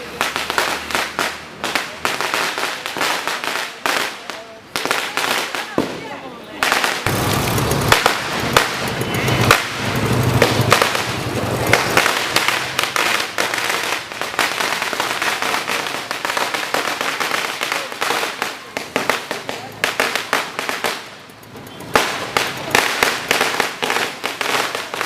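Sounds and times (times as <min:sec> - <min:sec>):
firecrackers crackling: 0:00.0 - 0:25.0
loud firecracker cracks: 0:00.0 - 0:25.0.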